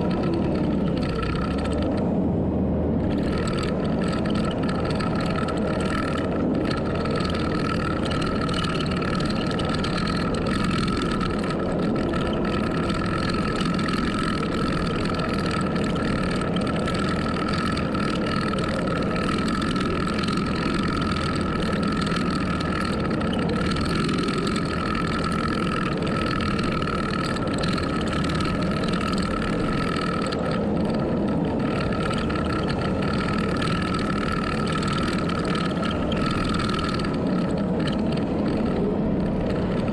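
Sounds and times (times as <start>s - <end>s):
heavy machine engine rumble: 0.0s - 39.9s
high steady whine: 0.0s - 39.9s.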